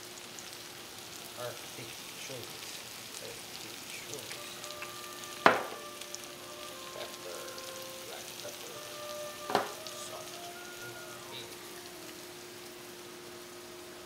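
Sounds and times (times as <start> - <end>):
mushrooms sizzling in a frying pan: 0.0 - 14.0.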